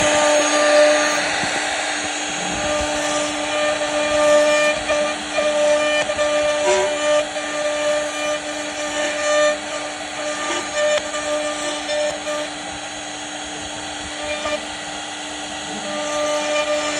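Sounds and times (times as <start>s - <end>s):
bit cutting wood hiss: 0.0s - 16.9s
router spindle high-pitched whine: 0.0s - 16.9s.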